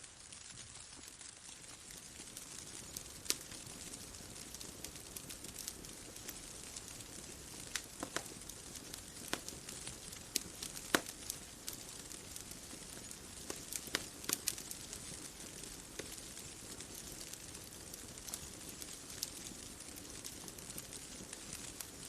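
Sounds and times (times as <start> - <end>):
fire pops and snaps: 0.0 - 22.0
wood fire crackling: 0.0 - 22.0.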